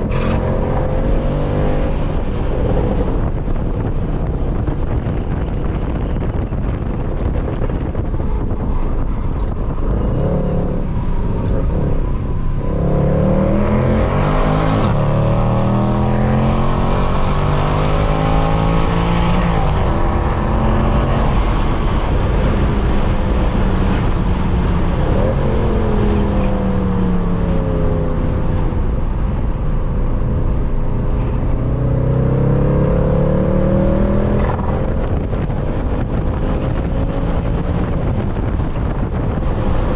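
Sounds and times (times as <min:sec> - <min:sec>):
car engine revving: 0:00.0 - 0:05.4, 0:06.3 - 0:39.9.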